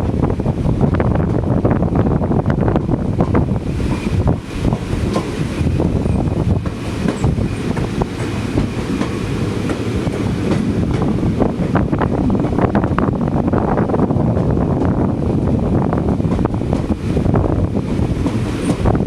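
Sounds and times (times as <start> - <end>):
train rumble: 0.0 - 19.0
wind buffeting microphone: 0.0 - 19.0.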